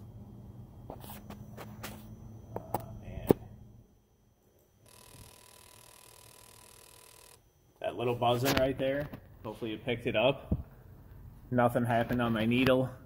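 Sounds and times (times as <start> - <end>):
faint electric buzzing: 0.0 - 13.0
low hum: 0.0 - 13.0.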